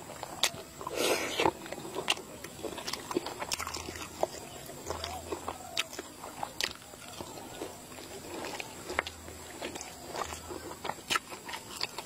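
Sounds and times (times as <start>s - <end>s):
wet mouth chewing smacks: 0.1s - 12.0s.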